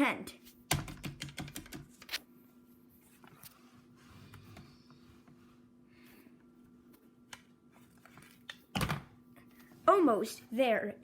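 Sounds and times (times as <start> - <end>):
low steady hum: 1.6 - 11.0.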